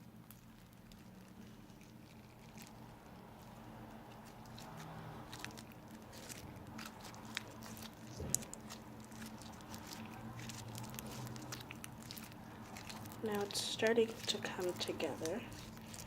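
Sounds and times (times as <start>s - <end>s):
slime squelching by hand: 0.0s - 16.0s.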